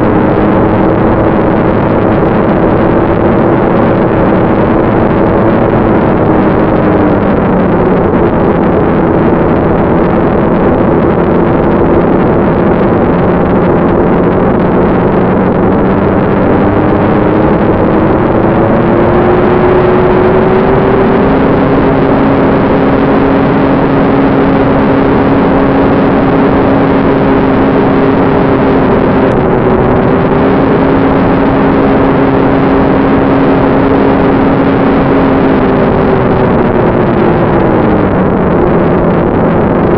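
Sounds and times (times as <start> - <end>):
ducted fan rushing air: 0.0 - 39.9.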